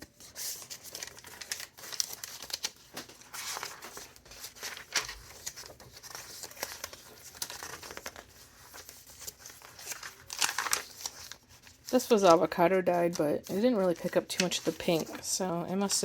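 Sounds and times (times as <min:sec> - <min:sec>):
journal pages turning: 0:00.0 - 0:16.0
paper crinkling and flicking: 0:00.0 - 0:16.0.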